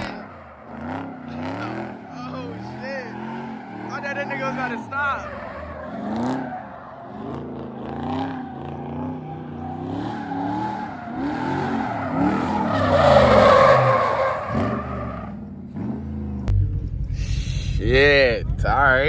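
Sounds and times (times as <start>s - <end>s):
tires squealing: 0.0s - 16.0s
car engine revving: 0.0s - 19.0s.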